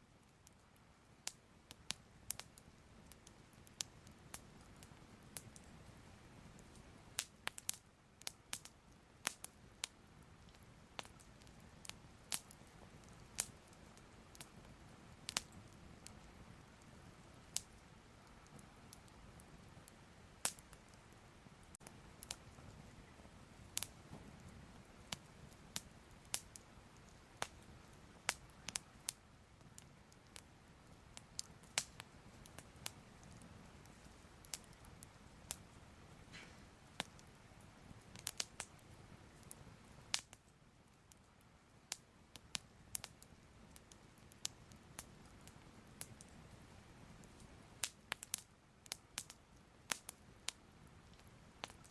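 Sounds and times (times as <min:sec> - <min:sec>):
fire crackling and popping: 0:00.0 - 0:51.9
low steady hush: 0:00.0 - 0:51.9.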